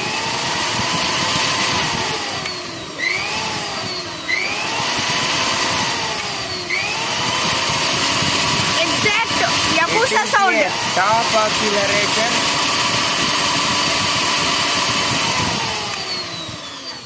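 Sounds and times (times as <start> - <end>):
mixer grinder motor whining: 0.0 - 17.0.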